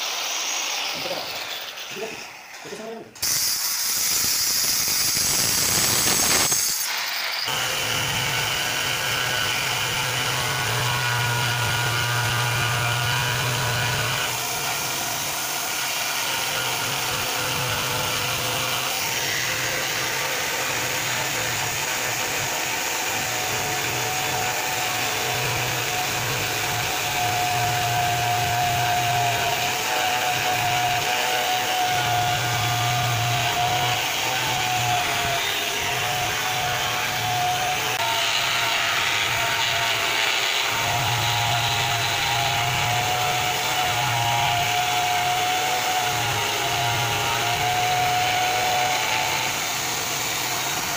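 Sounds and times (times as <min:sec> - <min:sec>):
hand-held grinder grinding marble: 0:00.0 - 0:50.9.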